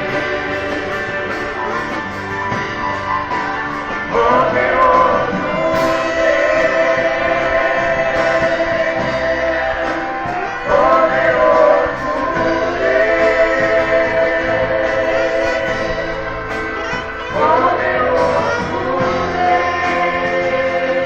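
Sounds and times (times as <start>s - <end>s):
choir singing gospel: 0.0s - 21.0s
instrumental backing: 0.0s - 21.0s.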